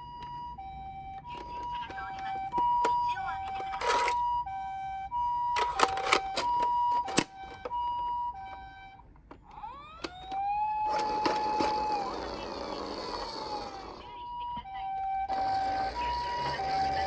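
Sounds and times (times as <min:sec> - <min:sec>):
two-tone siren: 0:00.0 - 0:17.0
wailing siren: 0:00.0 - 0:17.0.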